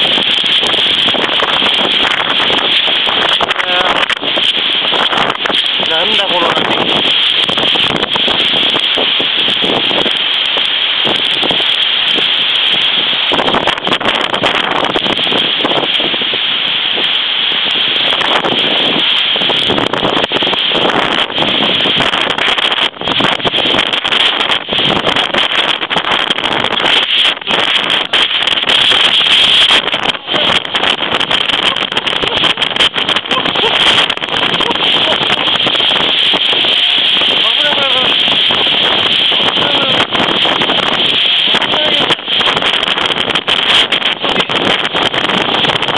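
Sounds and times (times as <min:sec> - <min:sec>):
gale buffeting microphone: 0:00.0 - 0:45.9
wind-driven rain: 0:00.0 - 0:45.9.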